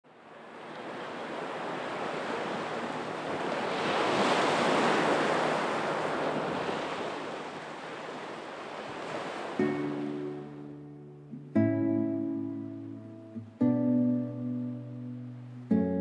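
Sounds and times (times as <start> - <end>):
ocean surf on a beach: 0.1 - 16.0.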